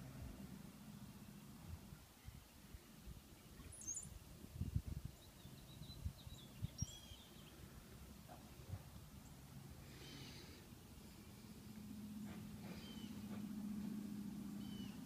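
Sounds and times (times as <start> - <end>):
faint low rumble: 0.0 - 15.0
birds chirping: 2.0 - 15.0.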